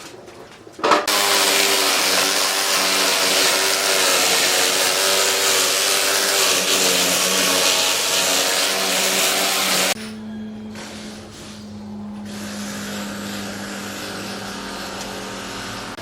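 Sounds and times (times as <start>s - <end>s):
power tool running under load: 1.1s - 11.2s, 12.2s - 16.0s.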